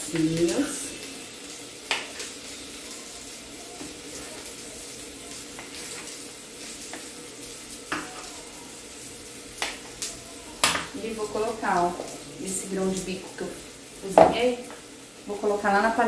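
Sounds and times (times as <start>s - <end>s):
onions frying in a pan: 0.0s - 16.0s.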